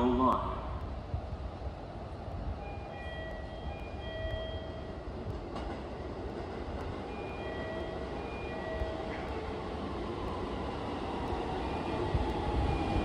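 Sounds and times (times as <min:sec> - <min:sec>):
train wheels rumbling on rail: 0:00.4 - 0:13.0.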